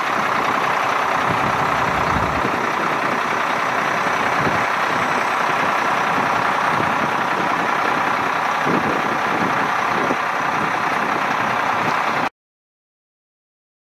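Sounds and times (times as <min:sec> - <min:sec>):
fire truck diesel engine idling: 0:00.0 - 0:12.3.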